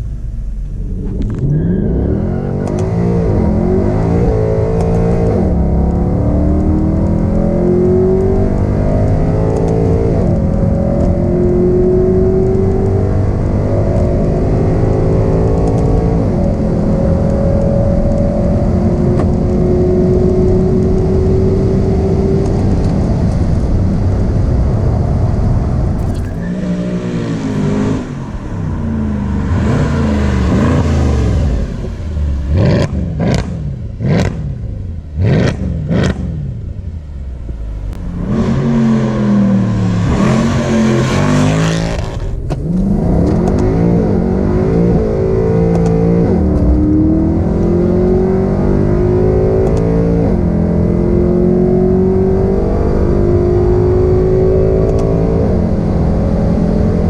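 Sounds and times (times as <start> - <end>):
car engine revving: 0.0 - 16.5, 26.0 - 57.0.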